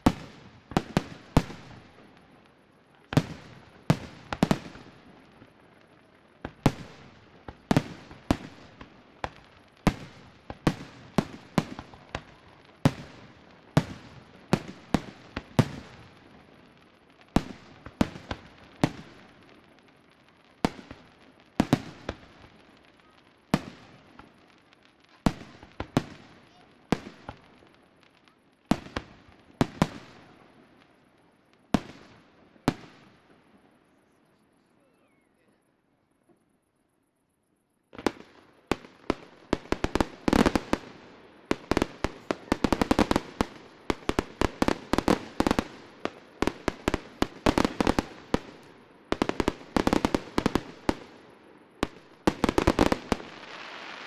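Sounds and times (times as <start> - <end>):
fireworks bursting with echoes: 0.0 - 36.6, 37.8 - 54.0.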